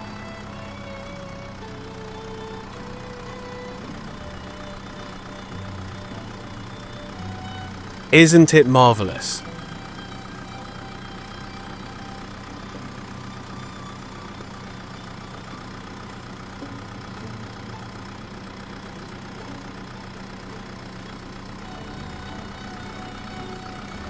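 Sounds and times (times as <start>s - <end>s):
tractor engine humming: 0.0s - 24.0s.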